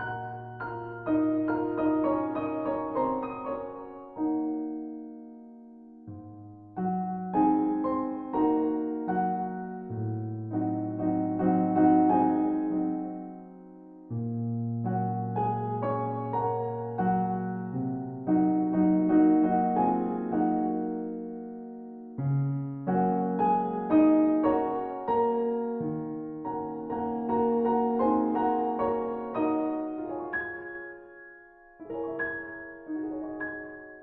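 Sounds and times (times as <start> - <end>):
gentle piano music: 0.0 - 34.0.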